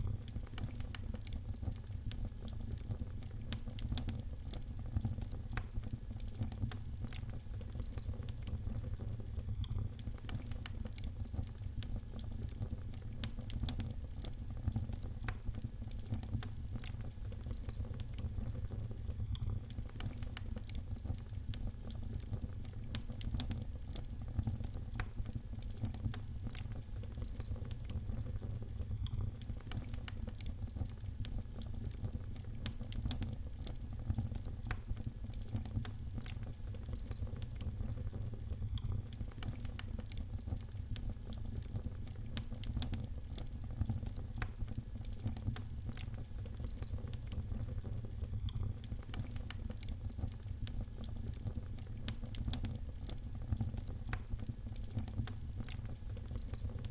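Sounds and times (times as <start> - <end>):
fireplace fire crackling: 0.0 - 56.9
low fire rumble: 0.0 - 56.9.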